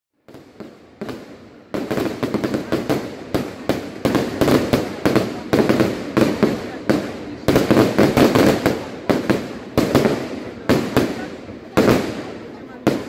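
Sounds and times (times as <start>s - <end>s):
fireworks bangs and crackles: 0.2s - 13.0s.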